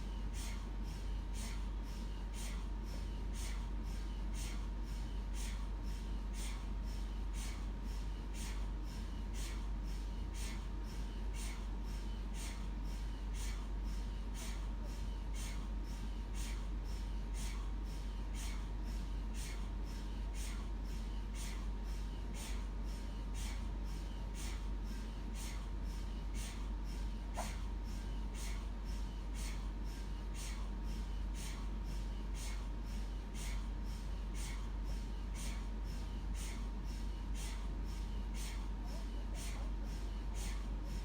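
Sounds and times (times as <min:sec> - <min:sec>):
mri scanner ticking: 0:00.0 - 0:41.0.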